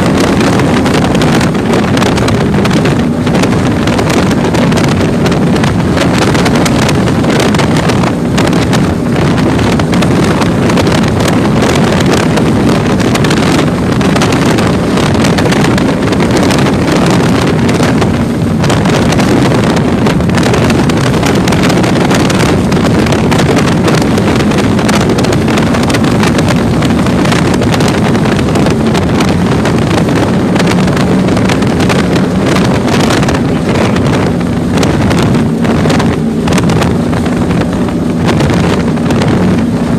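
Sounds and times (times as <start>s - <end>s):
boat engine running: 0.0s - 39.9s
wind buffeting microphone: 0.0s - 39.9s.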